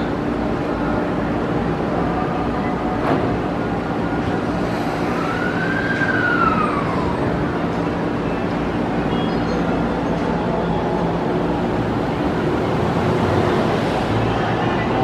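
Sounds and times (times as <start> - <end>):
train hum: 0.0 - 15.0.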